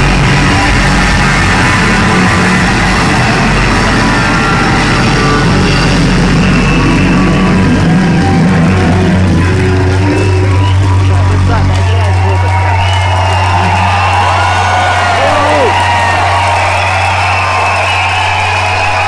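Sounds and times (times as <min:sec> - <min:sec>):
distorted live rock band: 0:00.0 - 0:19.0.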